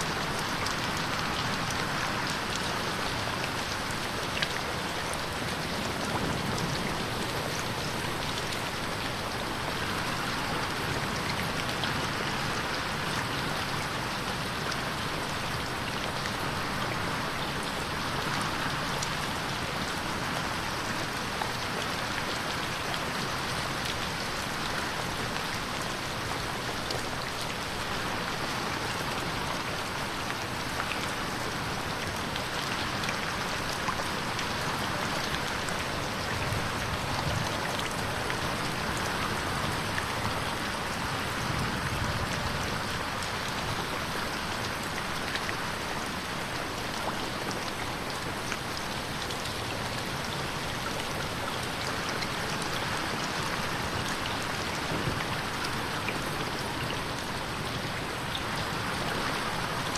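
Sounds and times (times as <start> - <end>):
rain pattering on window: 0.0 - 59.9.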